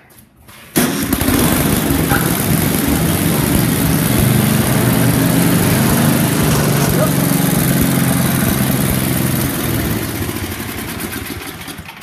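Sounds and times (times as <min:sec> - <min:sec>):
snowblower engine running: 0:00.8 - 0:12.0.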